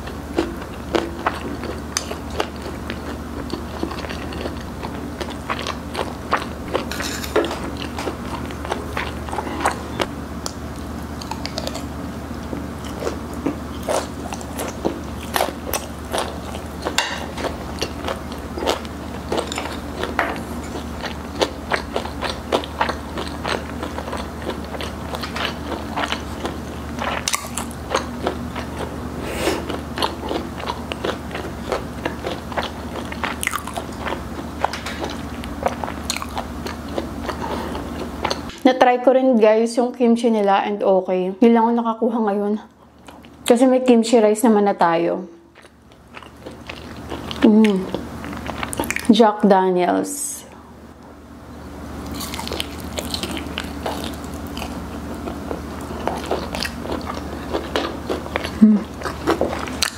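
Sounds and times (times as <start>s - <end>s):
chewing and crunching food: 0.0s - 38.6s, 42.8s - 43.5s, 45.5s - 49.2s, 52.0s - 59.9s.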